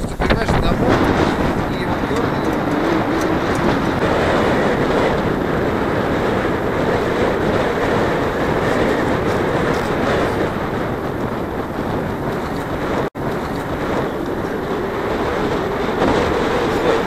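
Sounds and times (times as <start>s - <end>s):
wind blowing over microphone: 0.0s - 17.0s.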